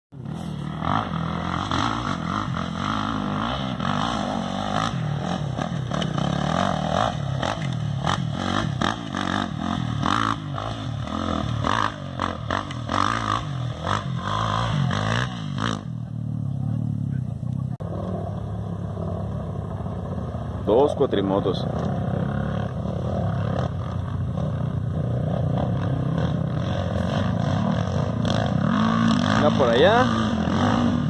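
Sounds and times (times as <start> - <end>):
motorcycle engines revving: 0.1 - 31.0.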